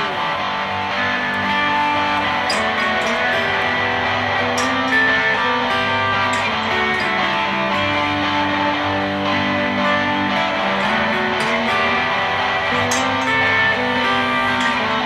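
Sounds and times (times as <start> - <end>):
electric guitar playing: 0.0 - 15.0.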